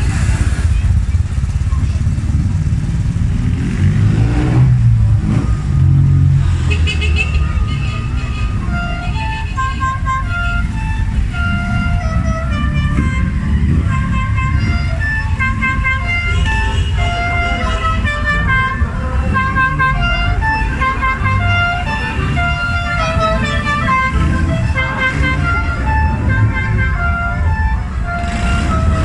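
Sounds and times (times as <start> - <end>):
cars and motorcycles rumbling past: 0.0 - 29.0.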